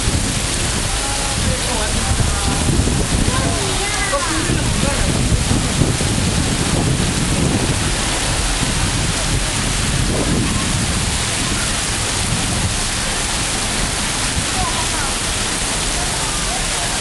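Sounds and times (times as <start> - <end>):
heavy rain pouring: 0.0 - 17.0
wind rumble on microphone: 0.0 - 17.0.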